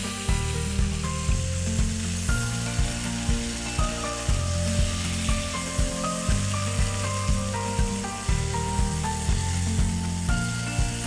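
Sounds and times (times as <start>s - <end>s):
background music with steady beat: 0.0s - 11.0s
chicken sizzling in oil: 0.0s - 11.0s.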